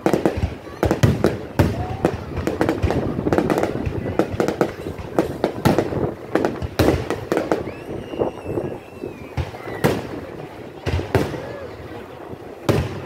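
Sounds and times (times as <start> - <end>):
firework crackle: 0.0 - 13.0.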